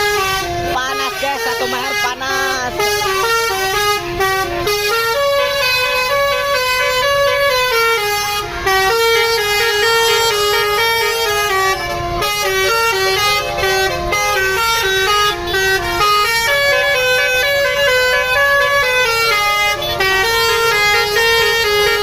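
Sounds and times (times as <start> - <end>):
multi-tone musical bus horn: 0.0 - 22.0.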